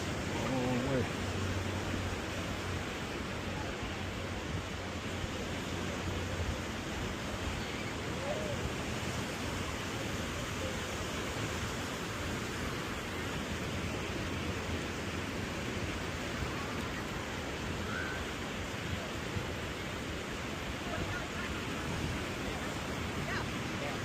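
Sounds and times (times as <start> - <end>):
ocean surf: 0.0 - 24.0
wind: 0.0 - 24.0.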